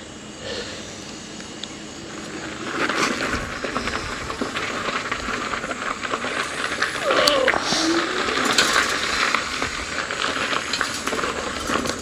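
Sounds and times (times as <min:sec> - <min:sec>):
bike riding hiss: 0:00.0 - 0:12.0.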